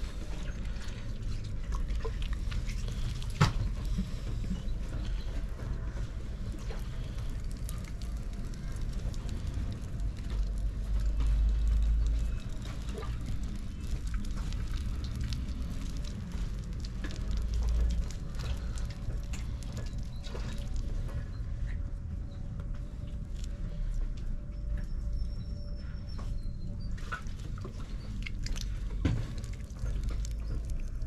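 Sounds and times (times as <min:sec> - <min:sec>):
wet clay squelching: 0:00.0 - 0:24.2, 0:26.4 - 0:31.0
low rumble: 0:00.0 - 0:31.0.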